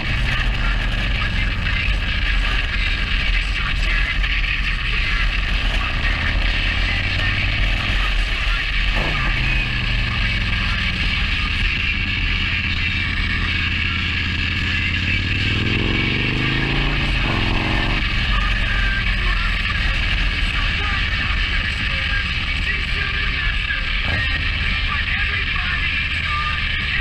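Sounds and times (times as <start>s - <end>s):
motorcycle engine rumble: 0.0s - 27.0s.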